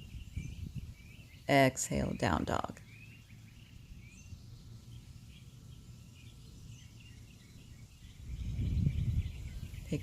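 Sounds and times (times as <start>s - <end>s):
low outdoor rumble: 0.0s - 10.0s
small birds chirping: 0.0s - 10.0s.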